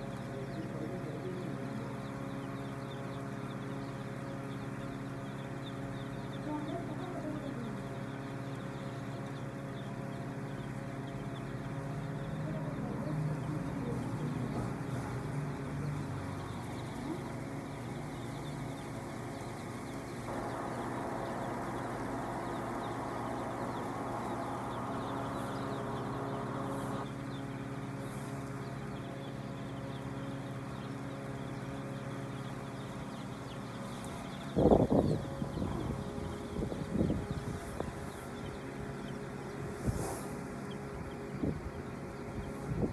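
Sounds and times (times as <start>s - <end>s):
chicks peeping: 0.0s - 42.9s
steady low hum: 0.0s - 42.9s.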